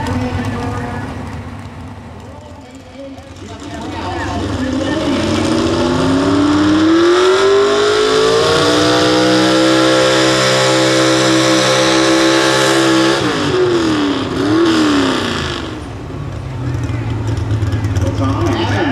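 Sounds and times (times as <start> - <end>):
truck engine revving under load: 3.2 - 18.9.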